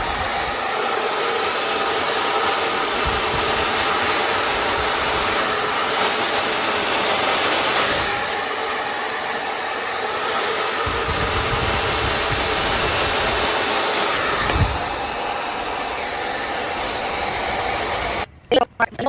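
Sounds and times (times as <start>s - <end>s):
hair dryer running: 0.0s - 18.3s.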